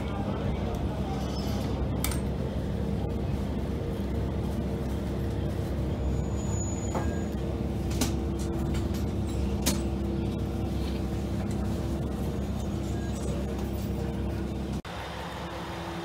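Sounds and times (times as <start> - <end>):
diesel railcar engine rumbling: 0.0 - 16.0.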